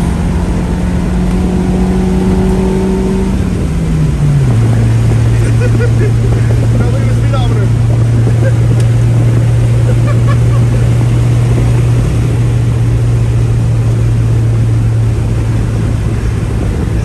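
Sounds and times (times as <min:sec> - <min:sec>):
road noise: 0:00.0 - 0:17.0
vehicle engine droning: 0:00.0 - 0:17.0.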